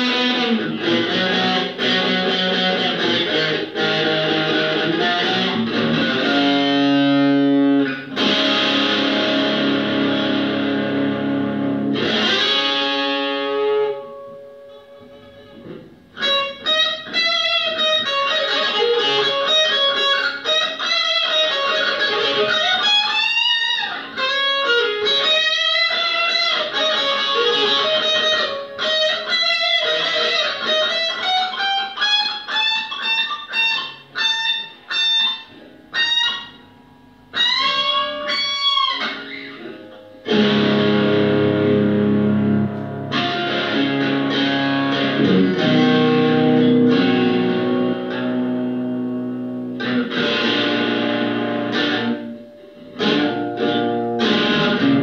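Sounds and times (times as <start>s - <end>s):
electric guitar lead with bends: 0.0s - 55.0s.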